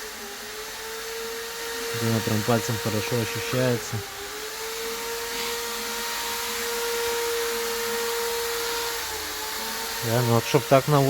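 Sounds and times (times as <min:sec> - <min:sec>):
small electric motor whining: 0:00.0 - 0:11.0.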